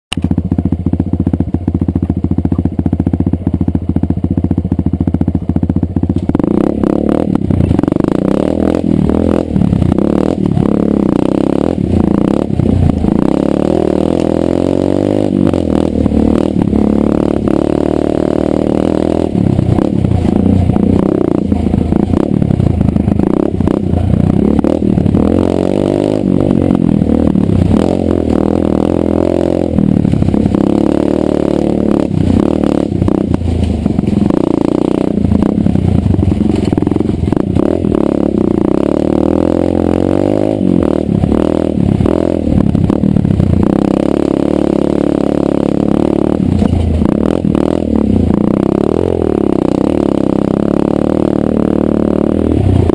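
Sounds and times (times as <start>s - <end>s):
dirt bike engine: 0.1s - 52.9s.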